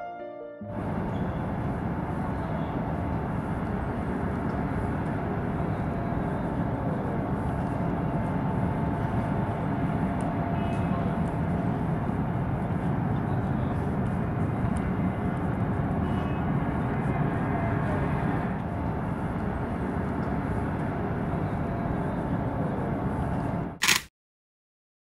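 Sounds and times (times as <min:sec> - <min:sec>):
low mechanical rumble: 0:00.7 - 0:23.7.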